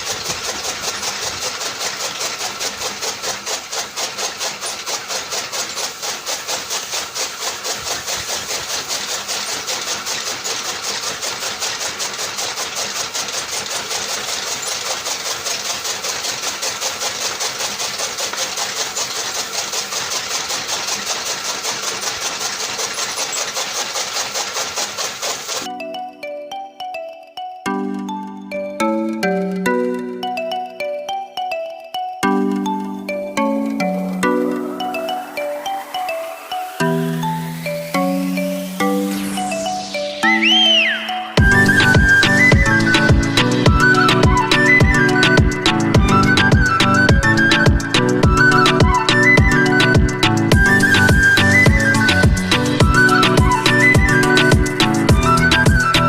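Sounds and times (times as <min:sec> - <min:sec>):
small motor chugging: 0:00.0 - 0:25.8, 0:32.2 - 0:56.0.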